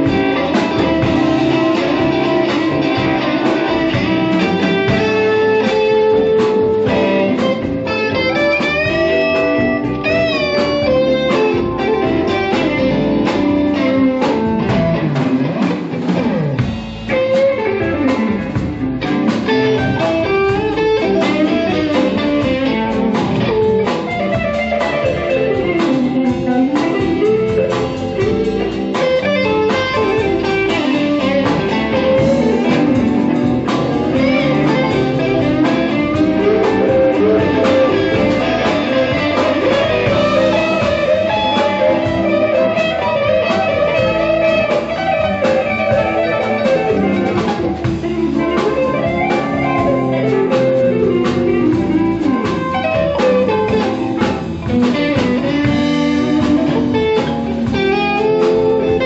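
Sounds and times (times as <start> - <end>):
blues band playing: 0.0 - 59.0
electric guitar: 0.0 - 59.0.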